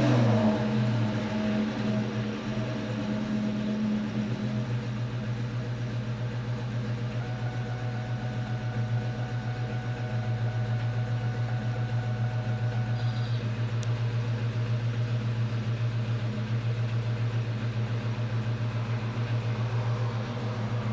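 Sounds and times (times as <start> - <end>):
car engine idling roughly: 0.0 - 20.9.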